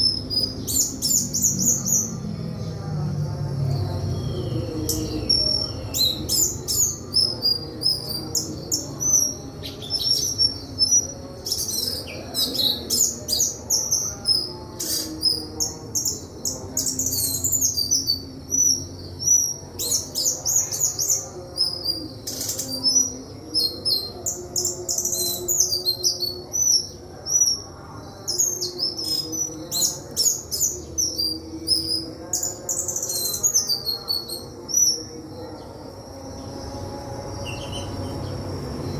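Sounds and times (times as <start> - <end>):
bird singing high chirps: 0.0 - 2.8, 3.8 - 38.9.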